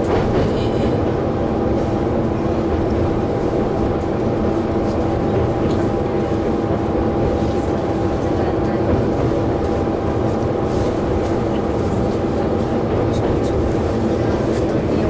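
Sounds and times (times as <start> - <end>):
railcar engine drone: 0.0 - 15.0.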